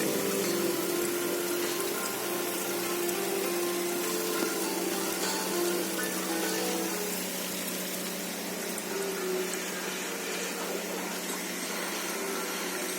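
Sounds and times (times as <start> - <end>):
water pump humming: 0.0 - 12.9.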